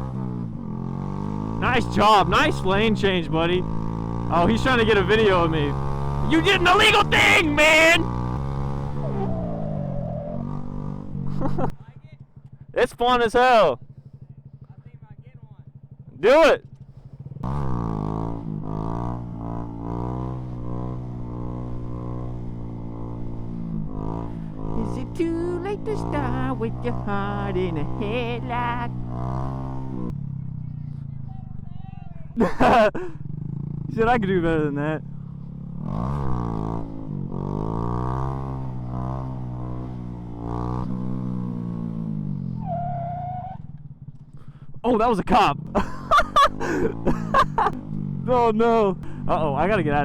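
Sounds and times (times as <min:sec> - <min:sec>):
motorcycle engine at high revs: 0:00.0 - 0:13.2, 0:13.8 - 0:50.0.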